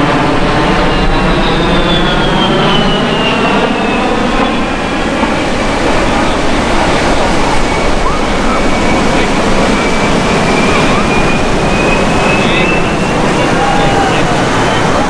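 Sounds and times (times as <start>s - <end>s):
jet engines with high fan whine: 0.0s - 15.0s.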